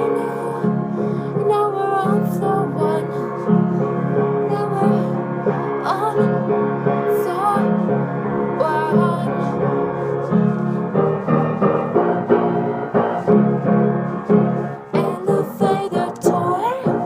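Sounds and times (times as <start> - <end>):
piano background music: 0.0 - 17.0.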